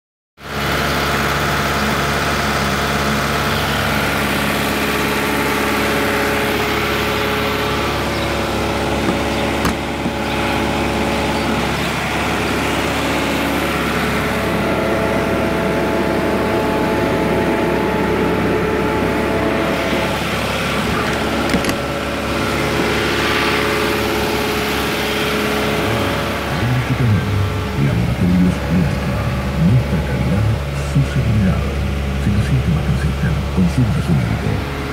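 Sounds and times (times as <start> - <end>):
truck engine idling: 0.4 - 34.9.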